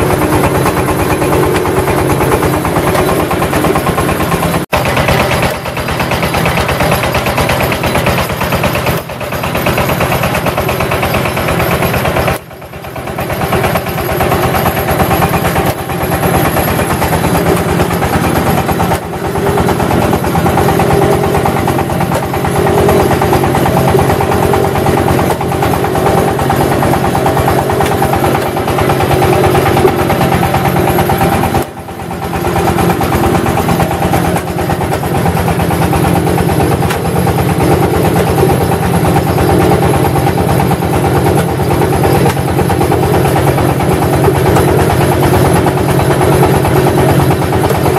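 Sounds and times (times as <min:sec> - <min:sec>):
brick press engine pulsing: 0:00.0 - 0:47.9.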